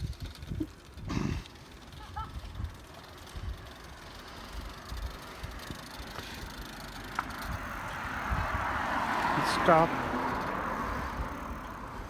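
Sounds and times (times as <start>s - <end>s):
wind buffeting microphone: 0.0s - 6.0s, 7.3s - 12.0s
car tyre noise: 0.0s - 12.0s.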